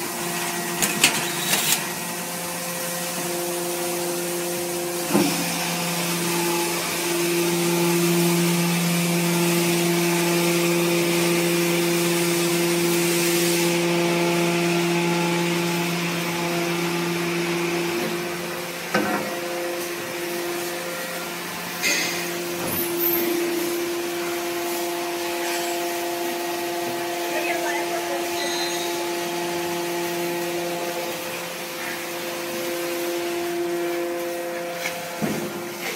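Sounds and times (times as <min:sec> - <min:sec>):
baling press motor and pump hum: 0:00.0 - 0:35.9.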